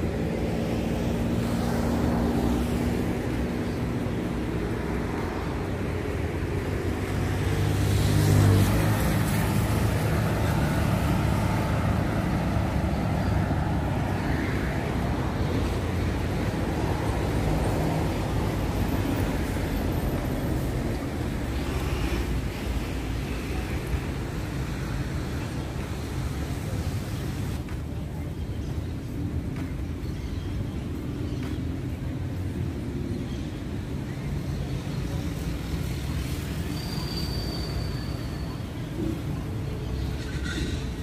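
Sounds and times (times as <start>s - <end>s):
passing cars hum: 0.0s - 41.0s.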